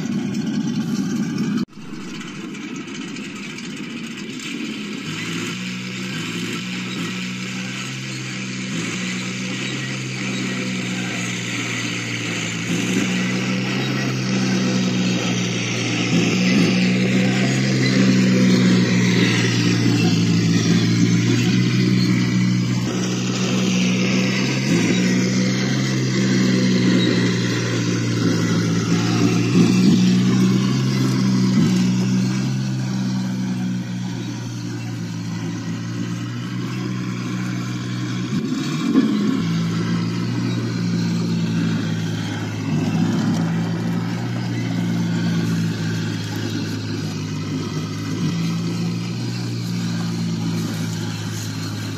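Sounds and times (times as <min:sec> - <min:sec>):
toy vehicle motor whine: 0:00.0 - 0:51.9.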